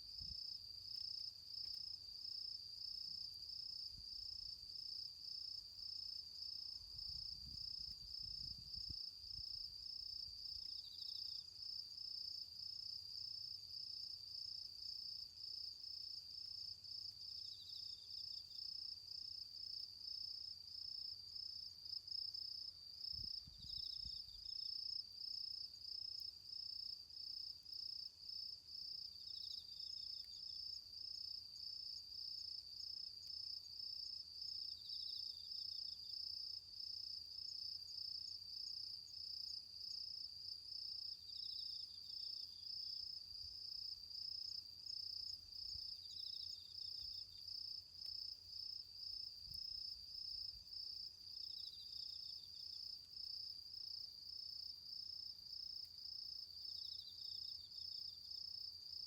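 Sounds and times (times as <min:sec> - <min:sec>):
cricket continuous pulsing trill: 0:00.0 - 0:59.0.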